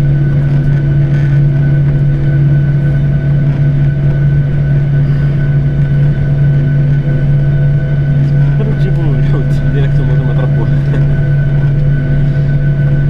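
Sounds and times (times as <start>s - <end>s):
air-conditioning drone: 0.0s - 13.0s
jet engines idling: 0.0s - 13.0s.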